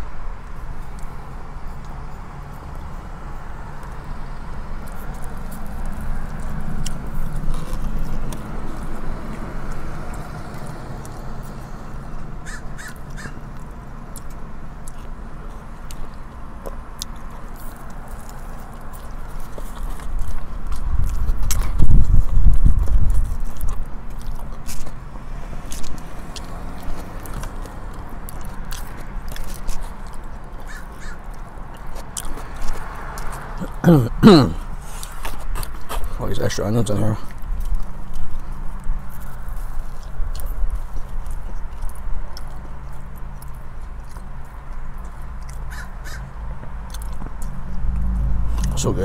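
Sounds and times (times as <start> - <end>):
vehicle idling rumble: 0.0 - 49.0
person chewing a burger: 0.1 - 49.0
eating clicks and crinkles: 3.8 - 11.5, 12.5 - 25.0, 25.6 - 33.6, 35.0 - 48.9.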